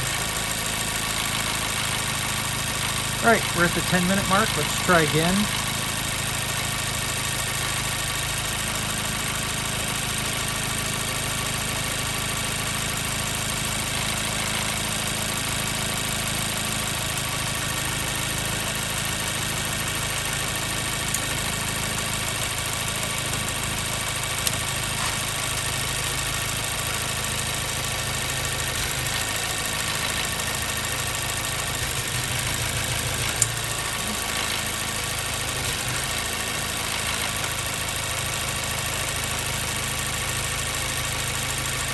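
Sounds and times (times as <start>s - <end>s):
car engine idling with misfire: 0.0s - 41.9s.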